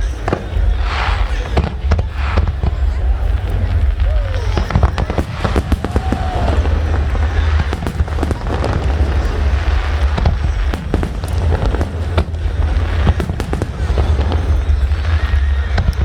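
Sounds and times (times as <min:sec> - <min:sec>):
deep rumble: 0:00.0 - 0:16.0
firework shells bursting: 0:00.0 - 0:16.0.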